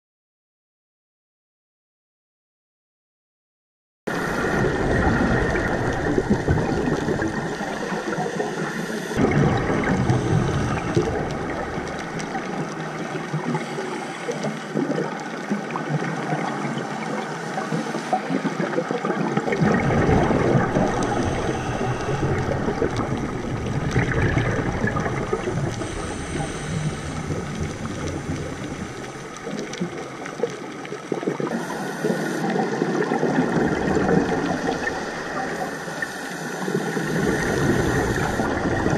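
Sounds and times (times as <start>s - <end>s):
deep underwater rumble: 4.1s - 17.7s, 18.4s - 38.9s
underwater rushing water: 4.1s - 38.9s.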